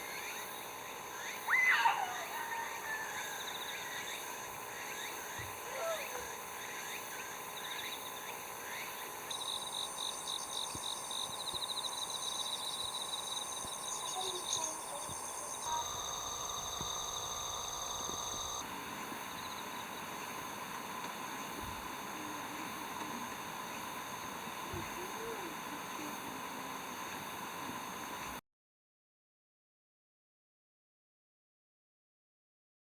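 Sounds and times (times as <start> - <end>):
insects chirping and trilling: 0.0 - 28.4.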